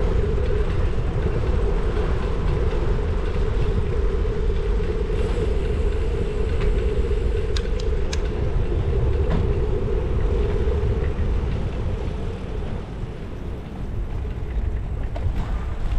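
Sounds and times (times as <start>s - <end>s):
steady hum: 0.0s - 15.9s
wind buffeting microphone: 0.0s - 15.9s.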